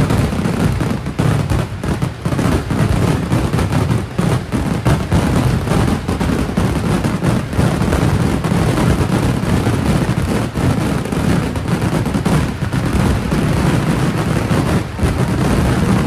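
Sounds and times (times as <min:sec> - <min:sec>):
fireworks explosions barrage: 0:00.0 - 0:16.0
sharp firework bangs: 0:00.0 - 0:16.0.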